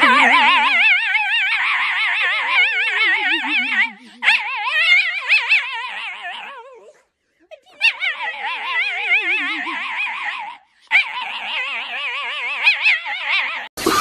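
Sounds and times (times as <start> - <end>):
dog howling: 0.0 - 7.0, 7.8 - 13.7.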